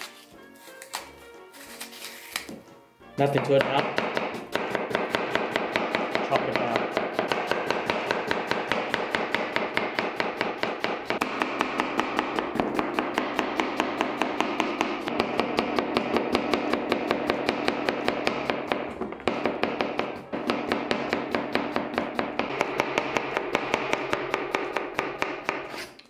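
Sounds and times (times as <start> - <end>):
knife slicing apples: 0.0 - 18.6, 19.4 - 26.0.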